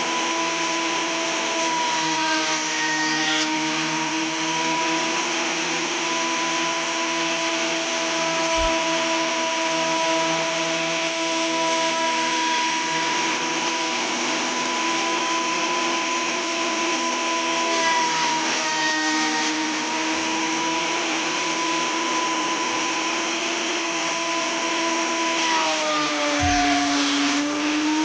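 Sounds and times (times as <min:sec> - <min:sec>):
power tool motor whine: 0:00.0 - 0:28.0.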